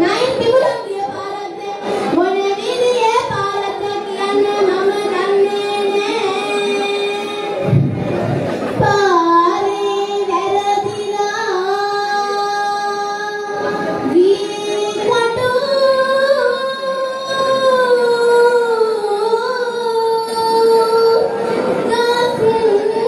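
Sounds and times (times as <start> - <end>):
girl singing into a microphone: 0.0 - 8.1, 8.7 - 23.0.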